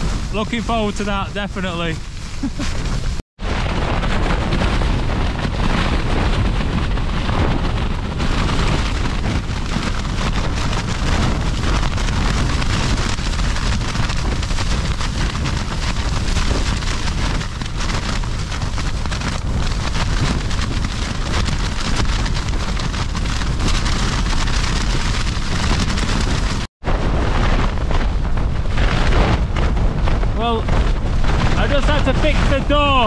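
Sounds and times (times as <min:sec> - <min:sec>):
tent flysheet flapping: 0:00.0 - 0:33.0
wind gusts rumbling: 0:00.0 - 0:33.0.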